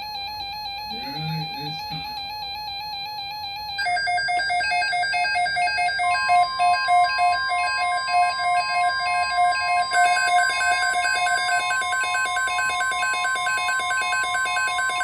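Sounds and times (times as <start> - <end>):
electronic alarm beeping rapidly: 0.0 - 15.0.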